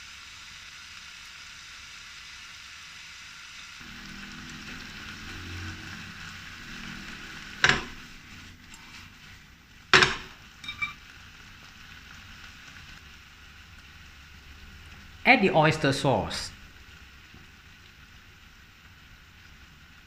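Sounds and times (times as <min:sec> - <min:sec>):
shrimp sizzling in hot oil: 0:00.0 - 0:20.0.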